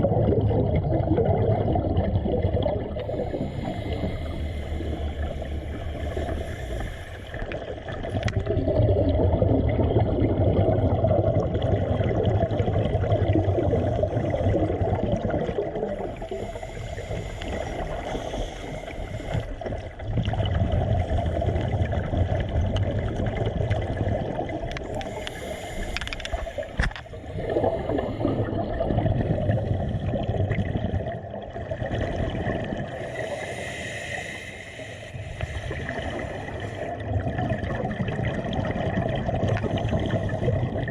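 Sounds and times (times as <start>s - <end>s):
water gurgling and sloshing: 0.0s - 40.9s.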